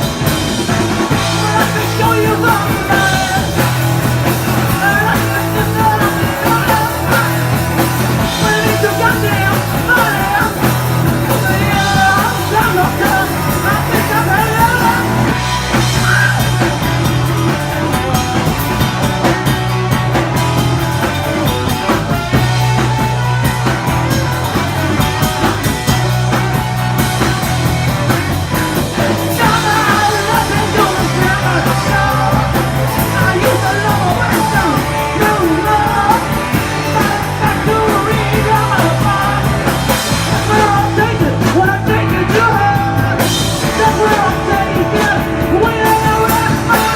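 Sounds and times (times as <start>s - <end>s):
punk rock band playing: 0.0s - 46.9s
person shouting singing: 1.0s - 18.8s, 21.2s - 46.9s.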